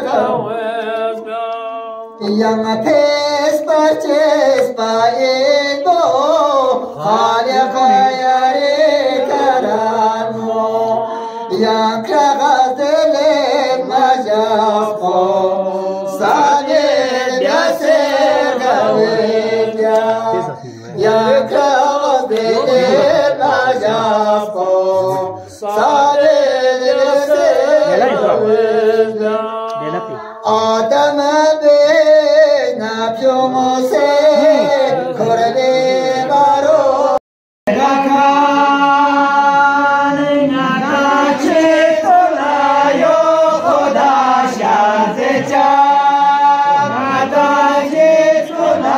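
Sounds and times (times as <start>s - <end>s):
men singing: 0.0s - 48.9s.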